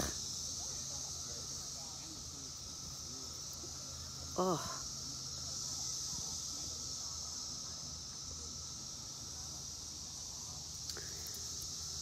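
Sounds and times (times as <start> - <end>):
cicadas droning chorus: 0.0 - 12.0.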